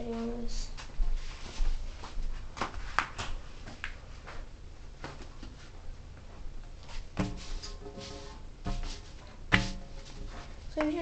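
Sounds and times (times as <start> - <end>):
soft handling noise: 0.0 - 11.0.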